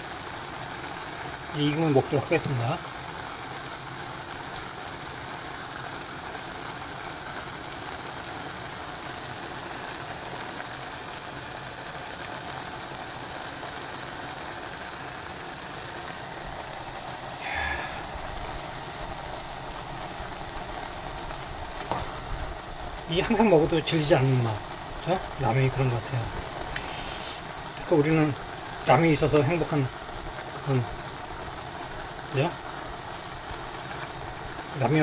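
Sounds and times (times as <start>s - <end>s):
water boiling in saucepan: 0.0s - 35.0s.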